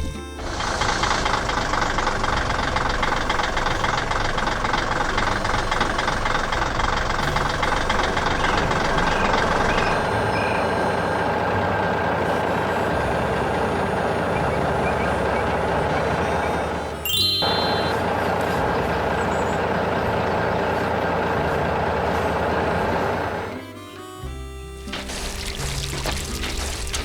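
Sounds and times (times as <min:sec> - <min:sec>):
construction machine engine running: 0:00.0 - 0:27.0.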